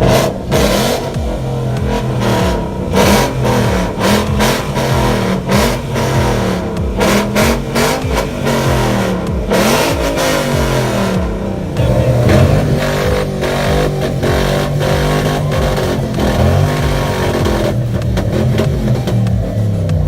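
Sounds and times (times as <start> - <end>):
loud car engines revving: 0.0 - 20.0.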